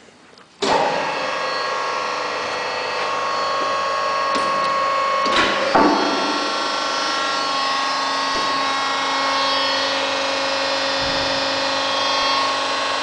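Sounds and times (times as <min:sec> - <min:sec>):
hydraulic pump hum with whine: 0:00.0 - 0:13.0.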